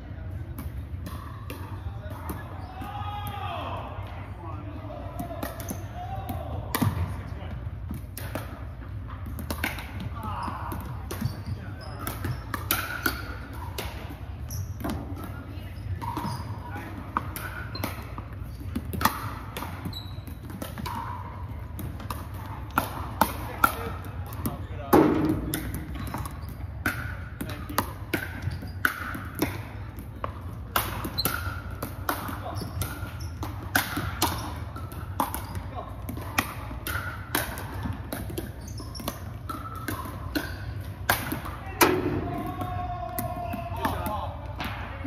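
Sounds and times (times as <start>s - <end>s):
paddles hitting balls: 0.2s - 45.0s
balls bouncing on wooden floor: 5.1s - 45.0s.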